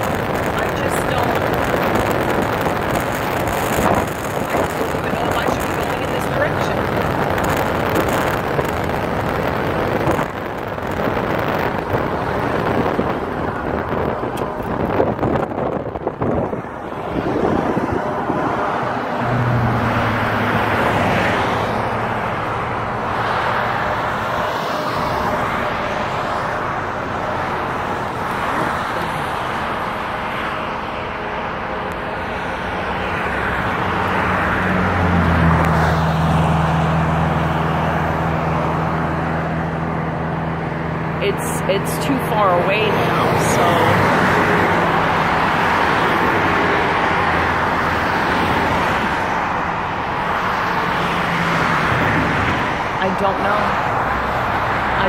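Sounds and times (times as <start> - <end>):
low engine hum: 0.0 - 55.0
road and wind noise: 0.0 - 55.0.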